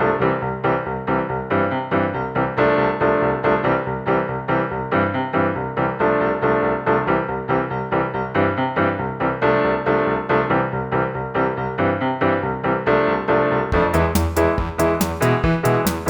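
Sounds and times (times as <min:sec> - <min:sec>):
piano tune: 0:00.0 - 0:16.0.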